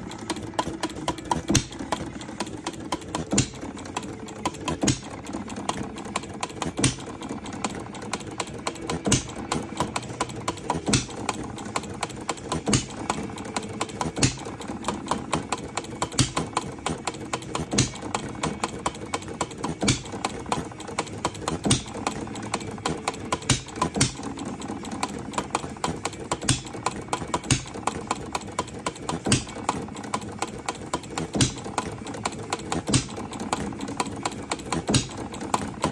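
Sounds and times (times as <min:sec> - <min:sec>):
hit-and-miss engine running: 0:00.0 - 0:35.9.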